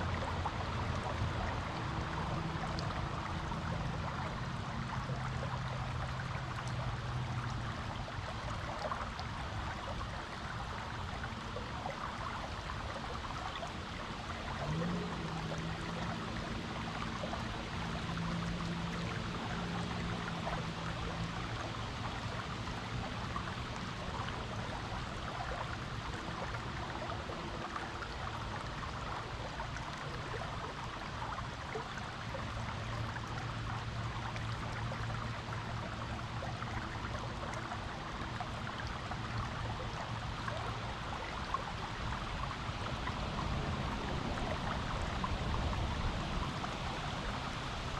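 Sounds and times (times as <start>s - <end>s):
creek water flowing over rocks: 0.0s - 47.9s
faint low hum: 0.0s - 47.9s.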